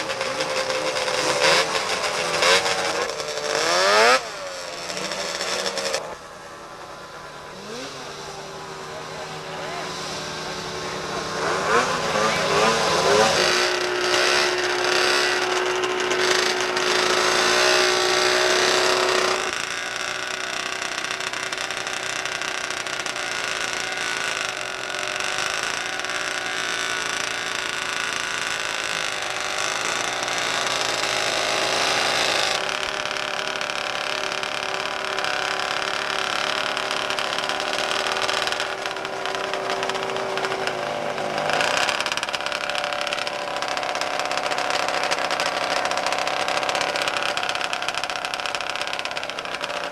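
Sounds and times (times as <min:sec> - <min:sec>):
snowmobile engines running hard: 0:00.0 - 0:49.9.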